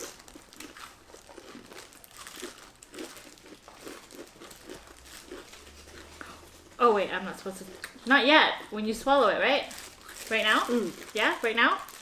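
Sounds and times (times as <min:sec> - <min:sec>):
people crunching chips: 0:00.0 - 0:06.9, 0:08.6 - 0:12.0
plastic gloves crinkling: 0:00.0 - 0:12.0.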